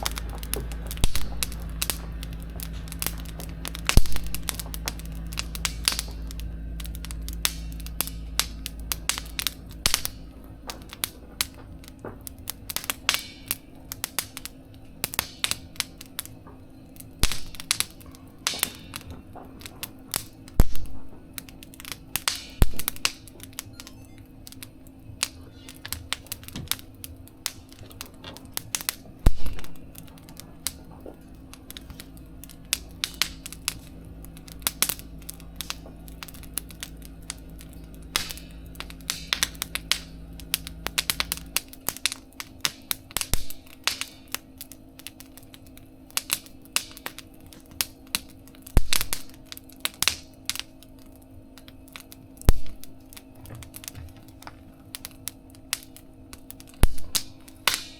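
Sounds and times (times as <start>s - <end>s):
steady low hum: 0.0s - 57.9s
wood fire crackling and popping: 0.0s - 57.9s.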